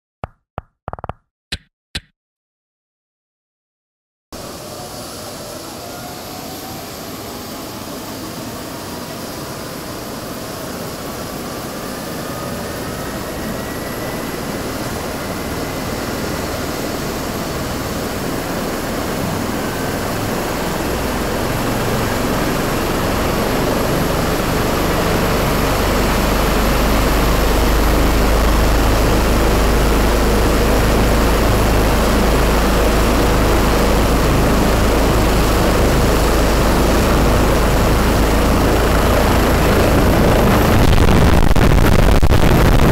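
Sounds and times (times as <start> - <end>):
helicopter turbine whine: 4.4 - 42.9
low rotor rumble: 4.4 - 42.9.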